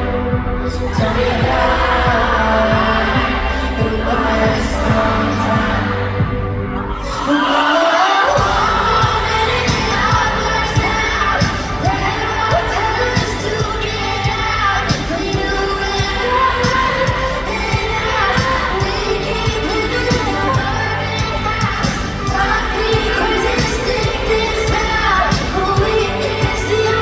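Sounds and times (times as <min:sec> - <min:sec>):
heavy bass beat: 0:00.0 - 0:07.1, 0:08.4 - 0:27.0
woman singing: 0:00.0 - 0:27.0.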